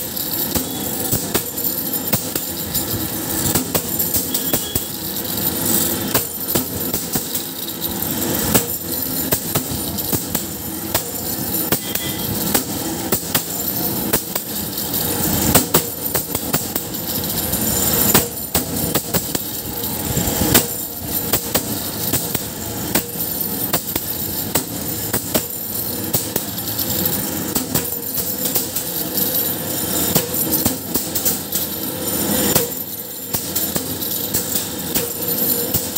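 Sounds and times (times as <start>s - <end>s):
steady machine noise: 0.0s - 35.9s.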